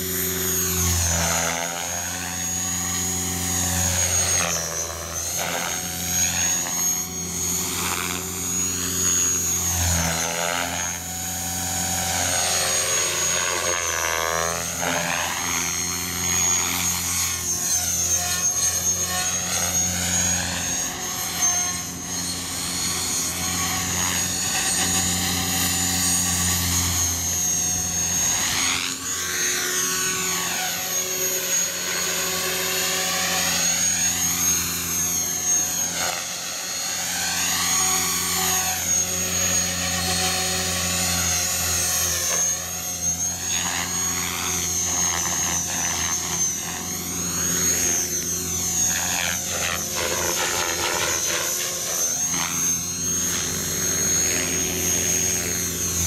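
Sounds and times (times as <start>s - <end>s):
model helicopter rotors whining: 0.0s - 56.0s.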